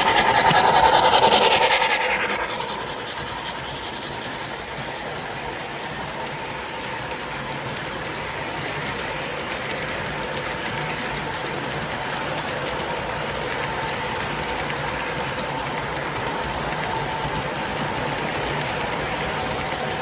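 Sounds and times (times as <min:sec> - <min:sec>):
model train wheels clicking on rails: 0:00.0 - 0:20.0.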